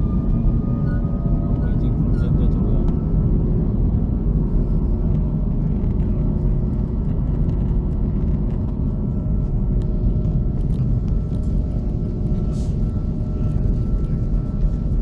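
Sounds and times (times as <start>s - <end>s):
faint whining tones: 0.0s - 15.0s
jet engines rumbling: 0.0s - 15.0s.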